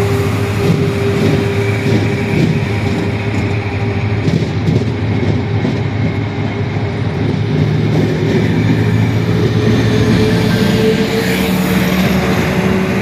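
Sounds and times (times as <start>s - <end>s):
train wheels clicking over rail joints: 0.0s - 13.0s
wheel and rail rumble: 0.0s - 13.0s.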